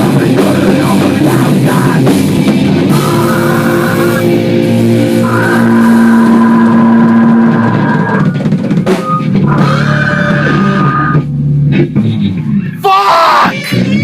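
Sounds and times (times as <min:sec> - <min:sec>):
heavy rock music: 0:00.0 - 0:14.0.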